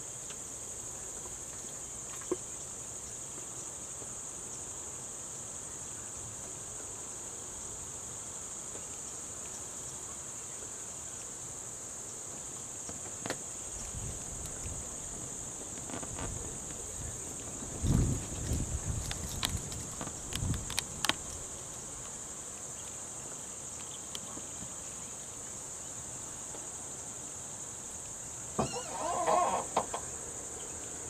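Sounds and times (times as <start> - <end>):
insect chorus droning: 0.0 - 31.0.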